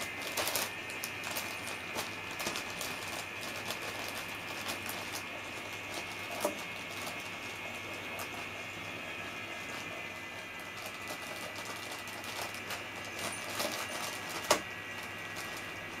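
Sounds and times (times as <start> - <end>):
plastic bag crackling: 0.0 - 16.0
small battery motor running: 0.0 - 16.0.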